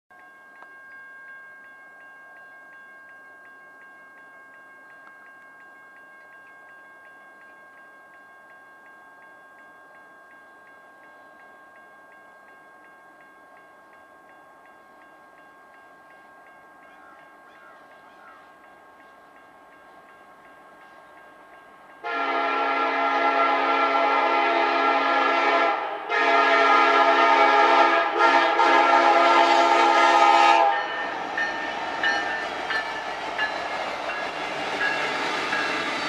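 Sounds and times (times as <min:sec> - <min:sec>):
railroad crossing bell ringing: 0:00.1 - 0:36.0.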